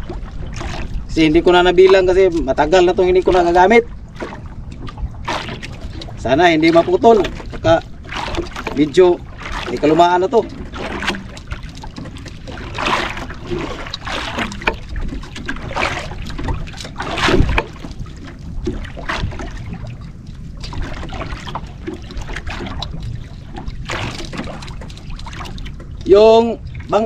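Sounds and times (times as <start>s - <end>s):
waves lapping against canoe hull: 0.0s - 27.0s.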